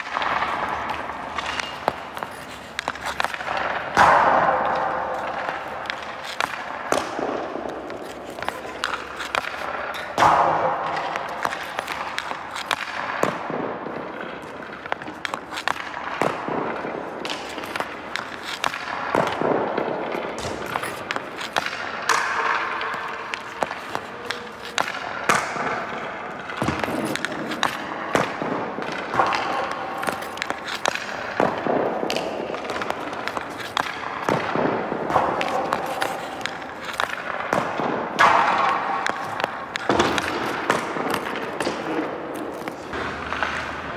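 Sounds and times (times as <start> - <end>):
hockey pucks cracking against boards: 0.0 - 43.9.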